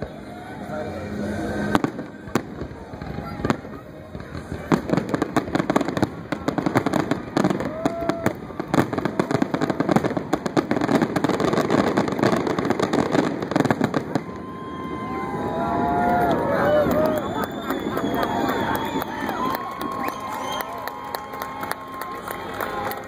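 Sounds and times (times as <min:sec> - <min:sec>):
crowd noise: 0:00.0 - 0:23.0
fireworks bangs and crackling: 0:00.0 - 0:23.0.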